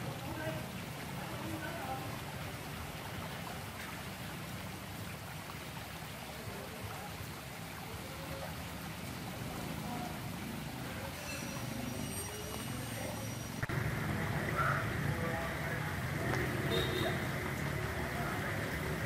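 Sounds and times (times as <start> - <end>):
water splashing into a pool: 0.0 - 19.0.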